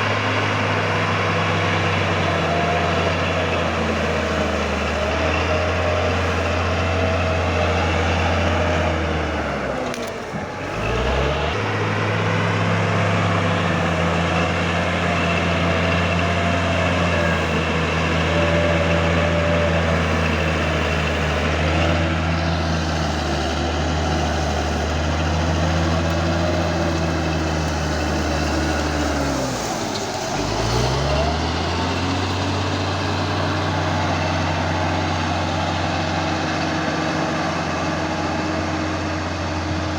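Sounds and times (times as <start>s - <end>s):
bulldozer diesel engine running hard: 0.0s - 39.9s.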